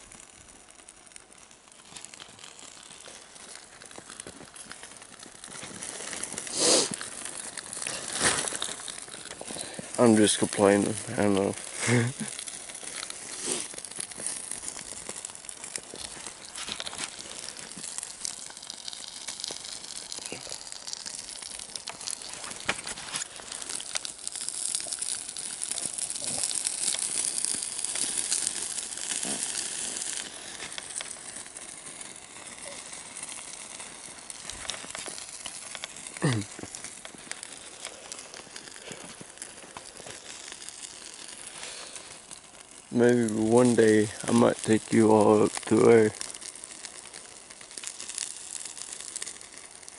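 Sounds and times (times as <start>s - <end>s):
fire crackling and hissing: 0.0s - 49.9s
pops of burning rubbish: 0.0s - 49.9s.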